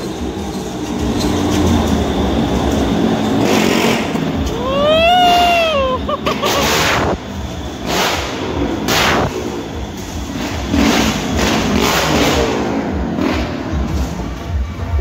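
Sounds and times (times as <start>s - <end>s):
motorcycle engines revving: 0.0s - 15.0s
whine: 0.0s - 15.0s.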